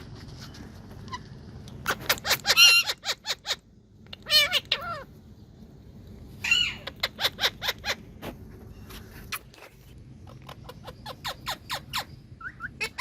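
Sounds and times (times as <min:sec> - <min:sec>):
parakeets chattering and calling: 0:01.0 - 0:05.7, 0:06.4 - 0:13.0.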